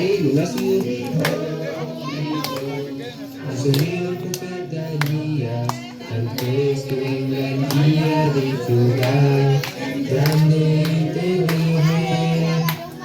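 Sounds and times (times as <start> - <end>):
hand claps: 0.0 - 1.6, 2.2 - 2.9, 3.6 - 13.0
group singing with children: 0.0 - 13.0.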